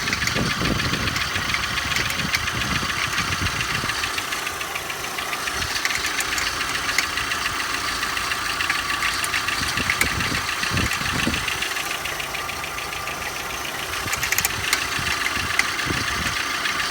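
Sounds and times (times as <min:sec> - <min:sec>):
car engine idling: 0:00.0 - 0:16.9
fast even ticking: 0:00.0 - 0:16.9
sharp clicks: 0:00.0 - 0:16.9.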